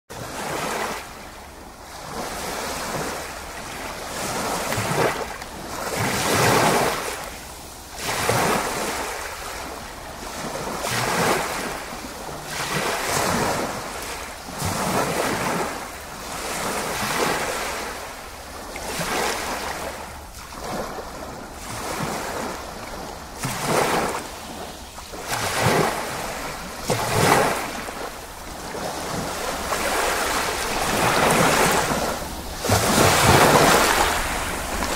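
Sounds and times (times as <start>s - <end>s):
ocean waves washing in: 0.2s - 34.9s.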